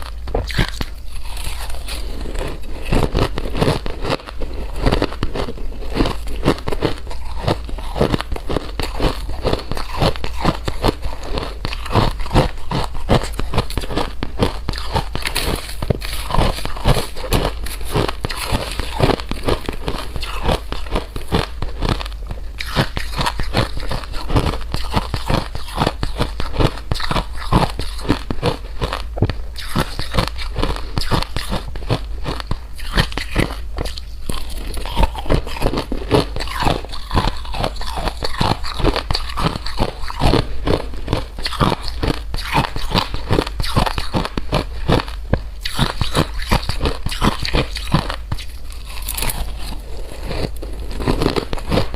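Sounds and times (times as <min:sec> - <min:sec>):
crunchy food being chewed: 0:00.0 - 0:51.9.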